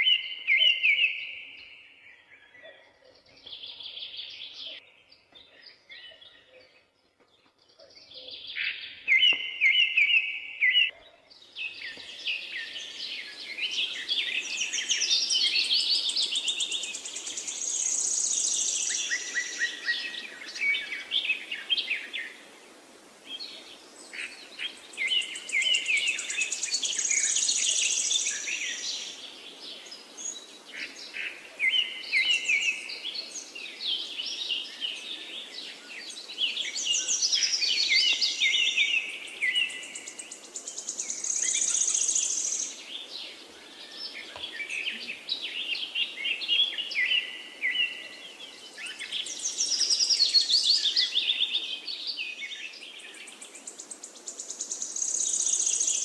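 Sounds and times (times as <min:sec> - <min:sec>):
birds chirping and singing: 0:00.0 - 0:22.5, 0:23.3 - 0:56.0.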